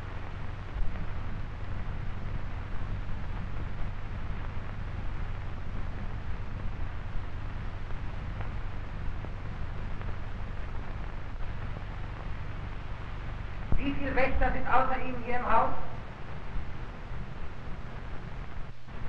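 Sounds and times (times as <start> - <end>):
deep rumbling: 0.0 - 19.0.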